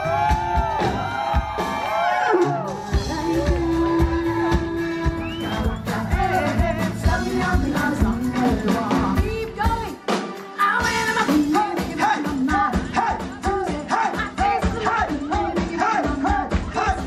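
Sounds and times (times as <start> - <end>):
live band playing upbeat music: 0.0 - 17.0
person singing: 2.3 - 17.0.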